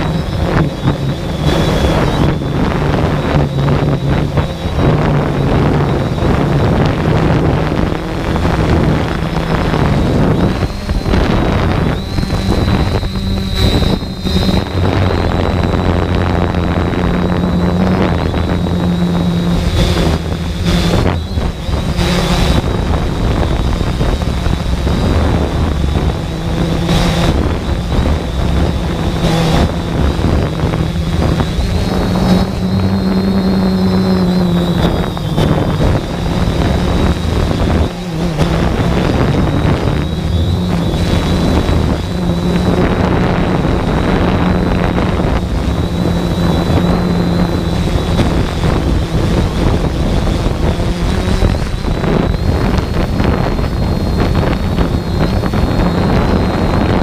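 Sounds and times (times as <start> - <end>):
drone motors humming: 0.0 - 57.0
wind rushing over microphone: 0.0 - 57.0.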